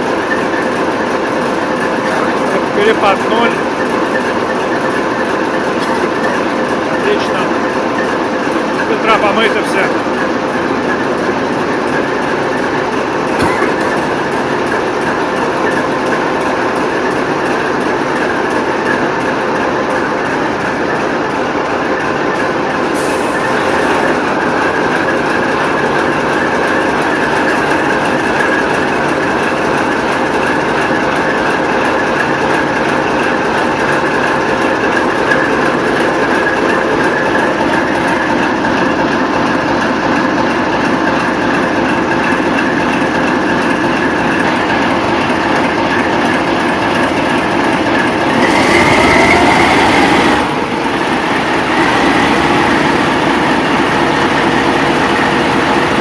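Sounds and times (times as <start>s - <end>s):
diesel locomotive running: 0.0s - 56.0s.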